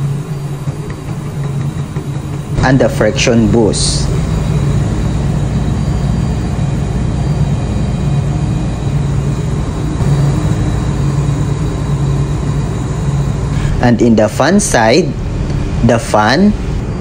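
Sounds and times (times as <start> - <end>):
low drone of machinery: 0.0 - 17.0.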